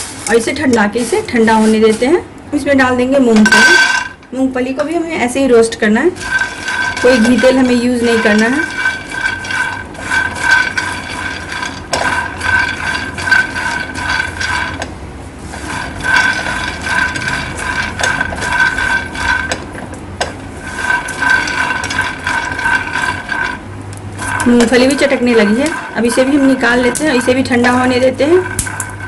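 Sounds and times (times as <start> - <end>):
spatula stirring: 0.0 - 2.2, 3.3 - 4.2, 5.8 - 29.0
steady high whine: 0.0 - 29.0
peanuts rattling in a pan: 3.3 - 4.2, 5.9 - 29.0.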